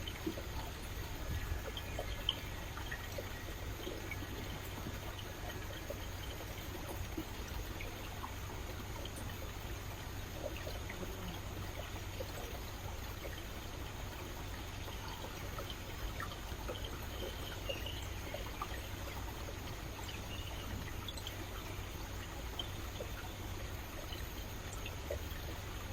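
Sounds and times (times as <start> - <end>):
stream water trickling and splashing: 0.0 - 25.9.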